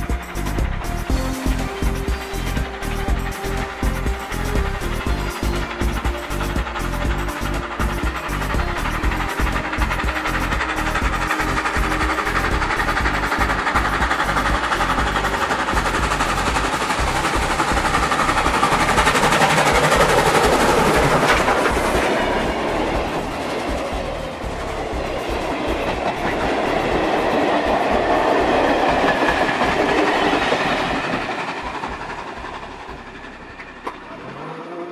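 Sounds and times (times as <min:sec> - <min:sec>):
train wheels clacking on rail joints: 0:00.0 - 0:34.7.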